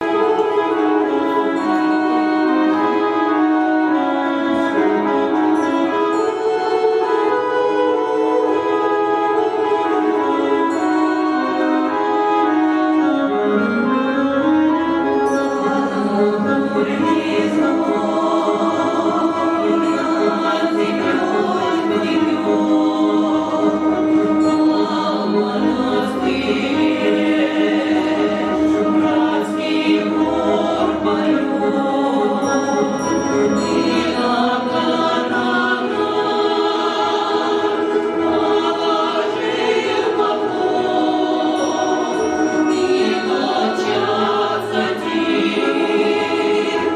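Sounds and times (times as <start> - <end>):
choir singing: 0.0 - 46.9
instrumental accompaniment: 0.0 - 46.9.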